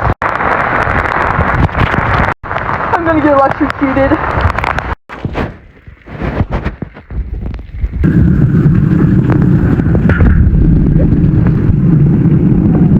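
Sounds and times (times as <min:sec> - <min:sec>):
heavy rain on microphone: 0:00.0 - 0:12.9.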